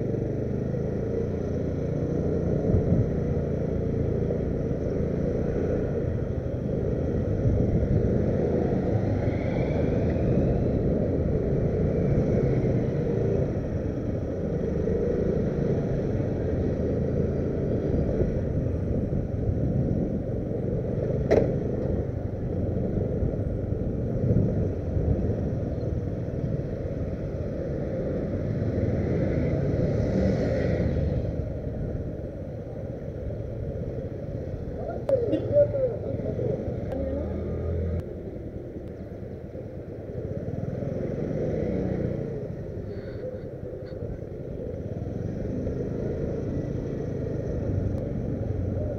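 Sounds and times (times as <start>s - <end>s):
motorcycle engine rumbling: 0.0s - 41.2s.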